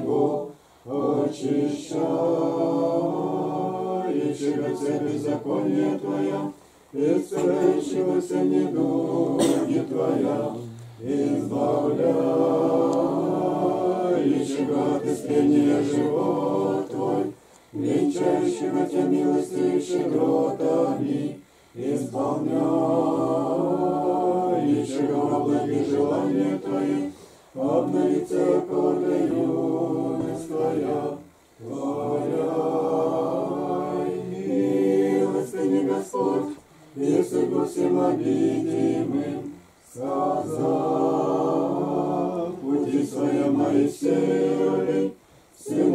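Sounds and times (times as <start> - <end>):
voices singing liturgical chant: 0.0 - 45.9.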